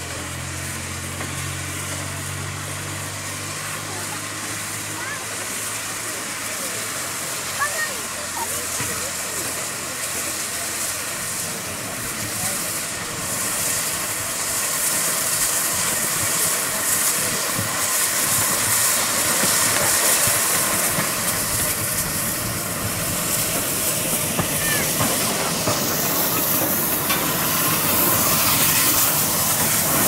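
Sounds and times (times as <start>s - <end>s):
steam hissing: 0.0s - 30.0s
steam locomotive moving slowly: 0.0s - 30.0s.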